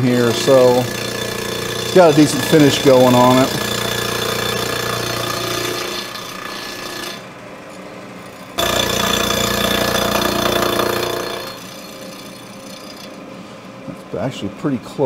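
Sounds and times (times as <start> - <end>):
rough cutting noise: 0.0 - 7.2, 8.4 - 13.3
milling machine spindle hum: 0.0 - 14.0.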